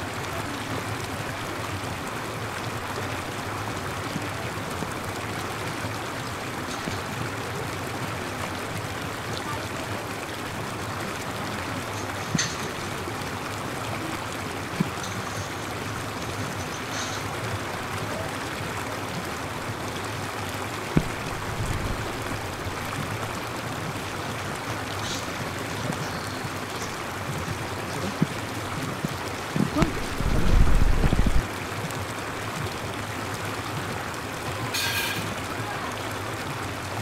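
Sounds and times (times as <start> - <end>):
running water hiss: 0.0 - 37.0.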